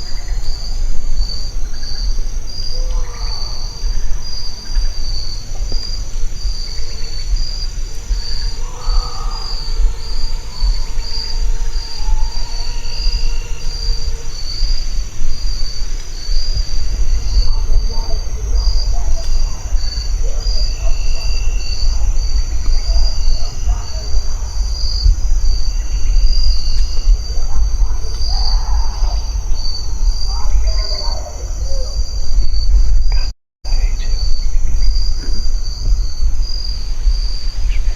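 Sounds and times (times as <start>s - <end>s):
crickets chirping: 0.0s - 37.9s
insects trilling: 0.0s - 37.9s
wind rumble on microphone: 0.0s - 37.9s.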